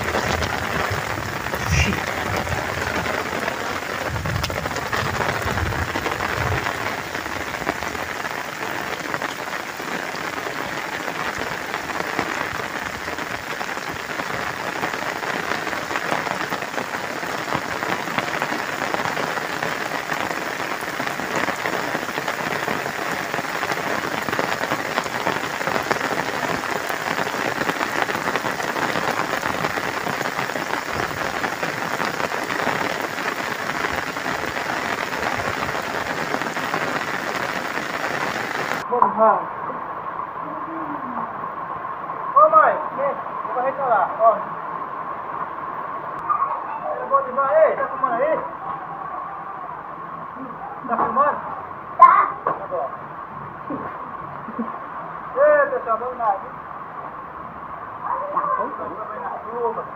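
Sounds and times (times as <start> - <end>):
rain on muddy ground and puddles: 0.0 - 59.9.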